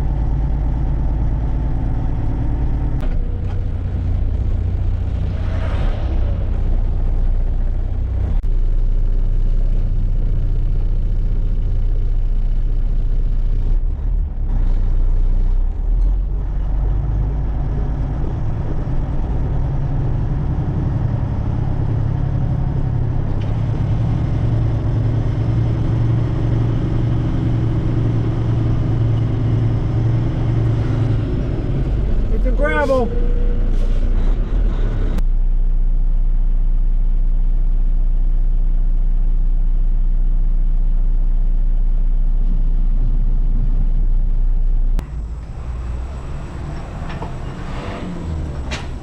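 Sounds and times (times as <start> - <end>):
dump truck engine running: 0.0 - 49.0.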